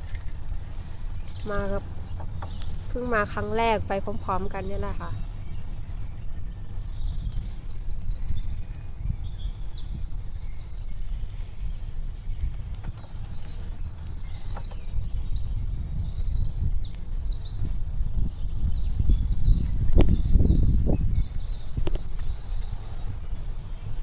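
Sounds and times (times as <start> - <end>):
bicycle rolling on pavement: 0.0 - 24.0
songbirds singing: 0.0 - 24.0.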